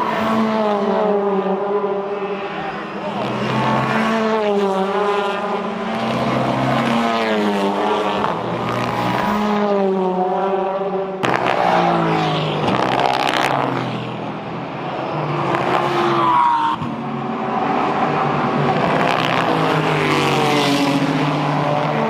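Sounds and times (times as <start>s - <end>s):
race car engines accelerating: 0.0s - 22.0s.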